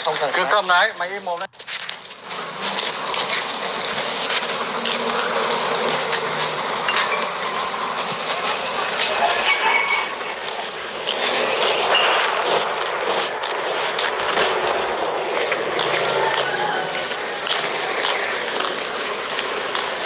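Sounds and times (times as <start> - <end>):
rushing noise: 2.0 - 20.0.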